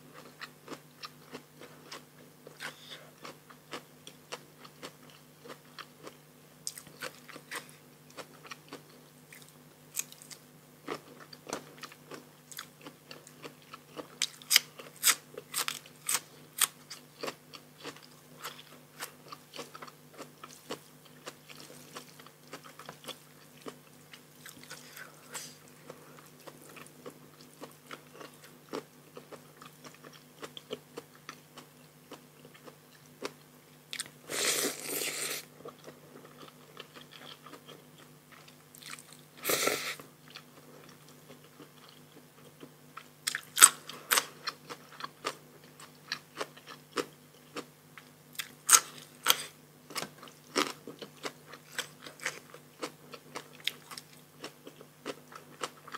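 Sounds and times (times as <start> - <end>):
steady low hum: 0.0 - 55.9
person crunching and chewing: 0.1 - 55.9.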